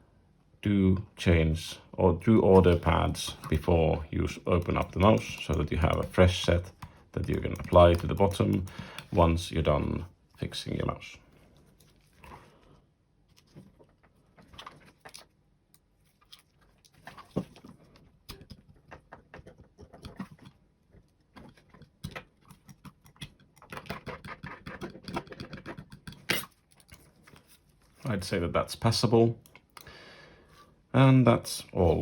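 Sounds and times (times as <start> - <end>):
rubbing plastic parts: 2.3 - 28.4.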